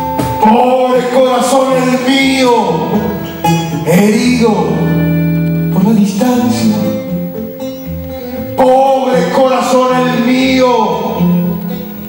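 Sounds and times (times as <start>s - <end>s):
guitar playing long notes: 0.0s - 12.0s.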